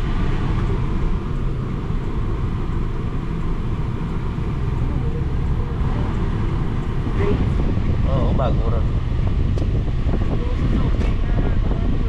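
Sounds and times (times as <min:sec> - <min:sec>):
car engine running: 0:00.0 - 0:12.0
road traffic: 0:00.0 - 0:12.0.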